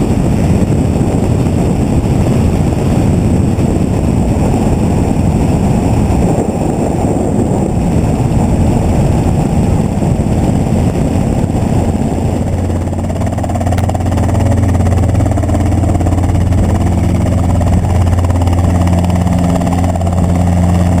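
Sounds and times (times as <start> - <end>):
helicopter engine and rotor: 0.0 - 21.0
windy in-flight noise: 0.0 - 21.0.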